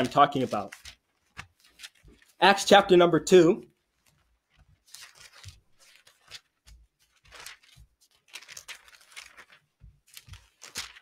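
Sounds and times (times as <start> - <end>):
thin paper rustling: 0.0 - 2.4, 3.8 - 11.0.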